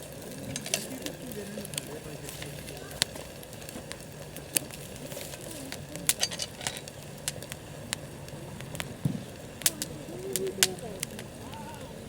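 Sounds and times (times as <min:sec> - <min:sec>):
campfire crackling: 0:00.0 - 0:12.0
low hiss: 0:00.0 - 0:12.0
sharp pops from burning wood: 0:00.0 - 0:12.0.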